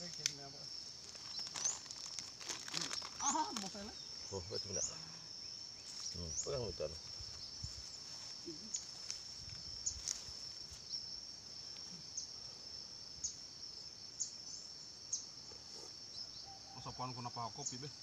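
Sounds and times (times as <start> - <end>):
insect chirps: 0.0 - 18.0
insects buzzing: 0.0 - 18.0.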